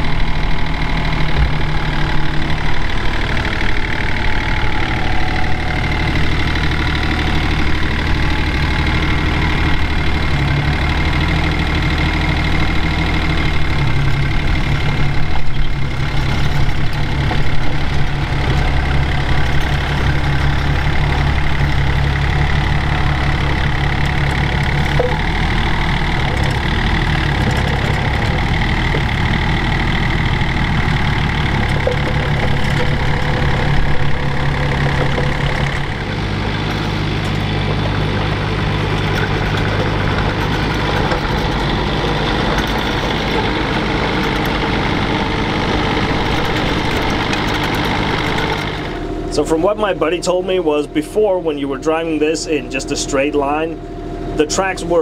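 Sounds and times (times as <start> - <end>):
mini excavator diesel engine running: 0.0 - 55.0.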